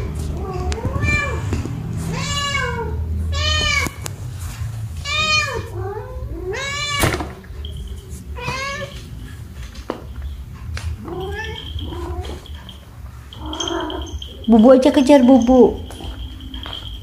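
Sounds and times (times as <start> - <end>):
cats meowing angrily: 0.0 - 17.0.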